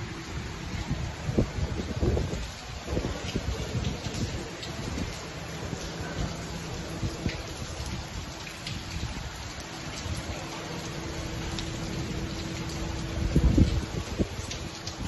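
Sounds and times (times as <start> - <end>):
heavy rain on concrete: 0.0 - 15.0.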